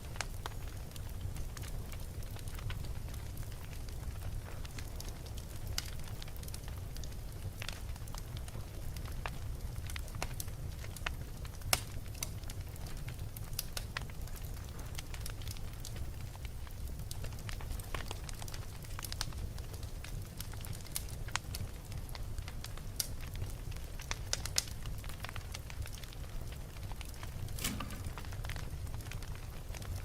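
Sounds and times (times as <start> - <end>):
fire crackling and popping: 0.0 - 30.0
fire rumbling in fireplace: 0.0 - 30.0.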